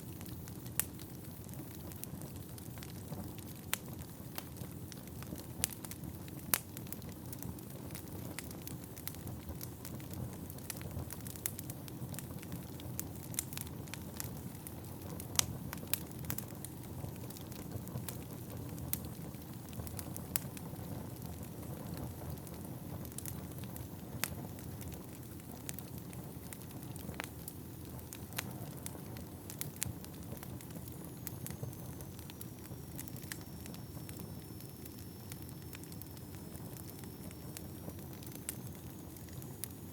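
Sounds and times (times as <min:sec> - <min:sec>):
fire rushing with crackles: 0:00.0 - 0:39.9.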